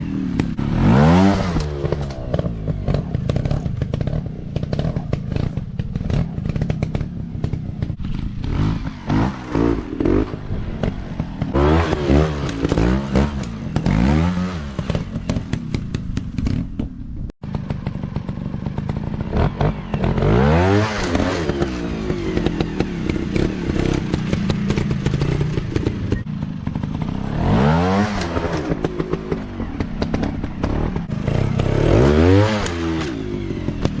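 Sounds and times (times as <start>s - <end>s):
dirt bike engines revving: 0.0s - 16.6s, 17.5s - 34.0s
clatter: 0.0s - 34.0s.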